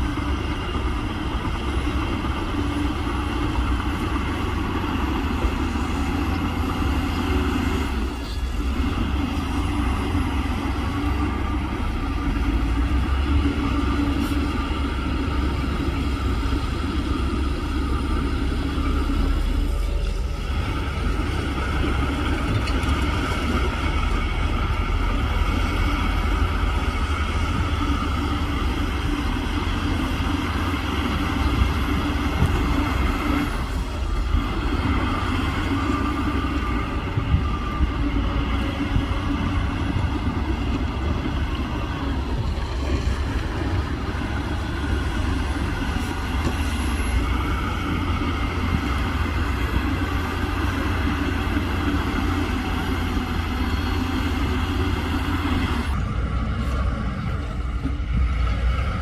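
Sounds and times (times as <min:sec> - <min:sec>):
diesel machinery rumbling: 0:00.0 - 0:59.0.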